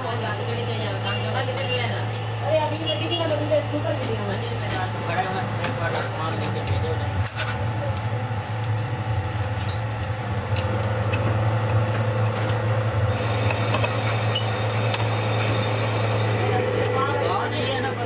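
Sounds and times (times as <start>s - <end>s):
workshop machine humming: 0.0s - 18.0s.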